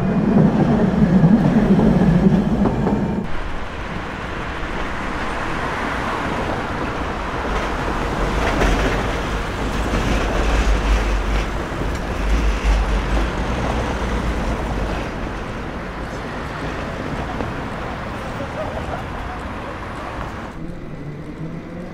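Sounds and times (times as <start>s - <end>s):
traffic noise: 0.0s - 21.9s
tram rumbling past: 0.0s - 21.9s.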